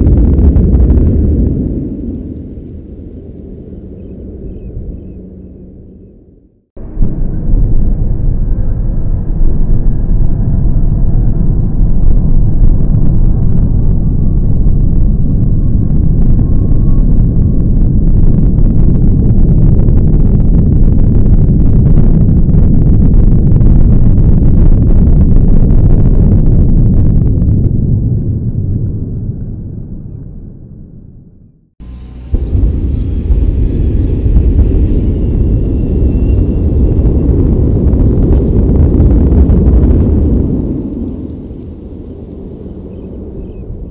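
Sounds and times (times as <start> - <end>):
rocket engines deep rumble: 0.0 - 43.9.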